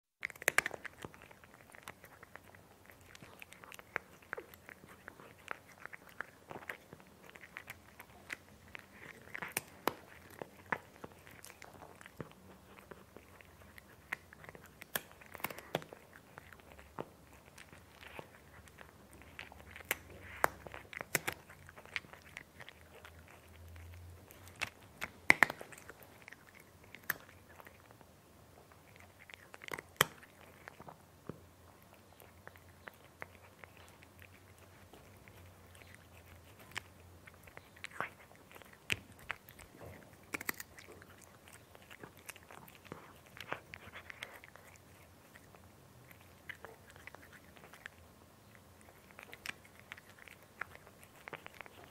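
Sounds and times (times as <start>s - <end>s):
cat crunching food: 0.0s - 51.9s.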